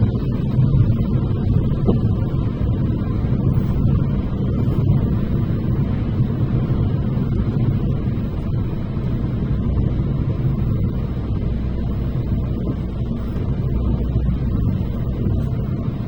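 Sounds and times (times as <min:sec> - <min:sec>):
vehicle rumbling in motion: 0:00.0 - 0:16.0.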